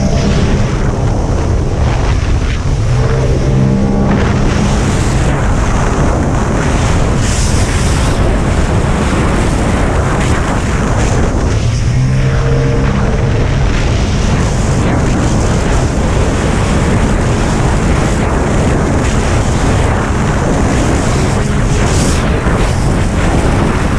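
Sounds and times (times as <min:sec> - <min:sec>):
jet ski engine running hard: 0:00.0 - 0:23.9
rushing water spray: 0:00.0 - 0:23.9
wind buffeting microphone: 0:00.0 - 0:23.9.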